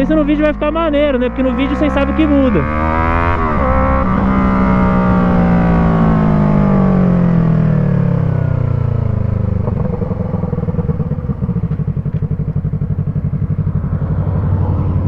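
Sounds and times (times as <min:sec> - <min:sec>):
motorcycle engine burbling: 0:00.0 - 0:15.0.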